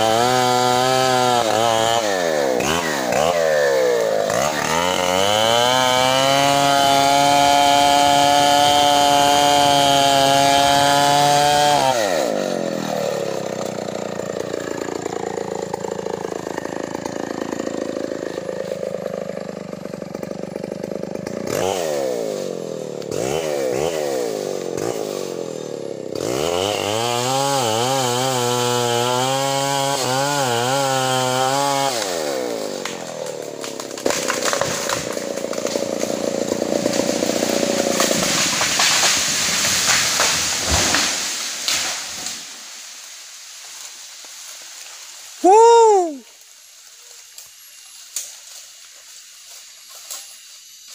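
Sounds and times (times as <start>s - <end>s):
chainsaw cutting a tree: 0.0s - 50.9s.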